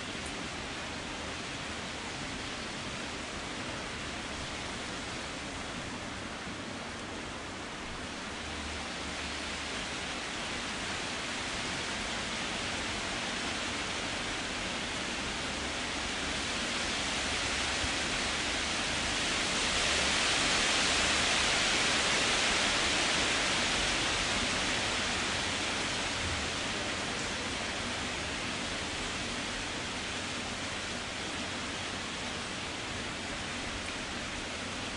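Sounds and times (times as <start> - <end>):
wind blowing through trees: 0.0 - 34.9.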